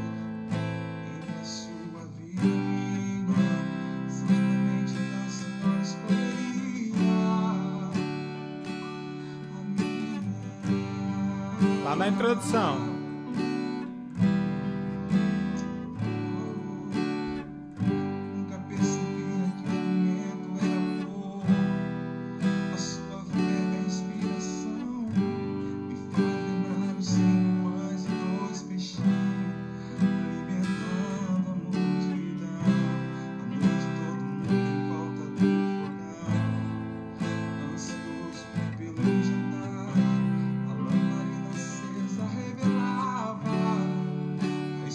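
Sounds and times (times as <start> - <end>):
acoustic guitar strumming chords: 0.0 - 44.9.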